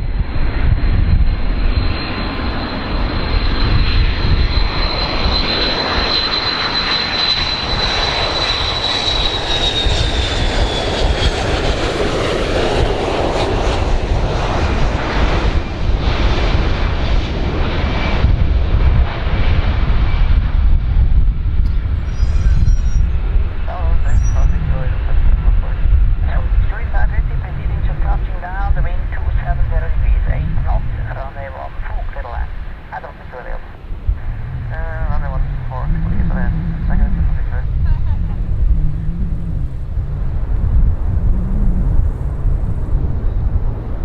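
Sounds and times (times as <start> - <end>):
airplane engines roaring: 0.0 - 44.0.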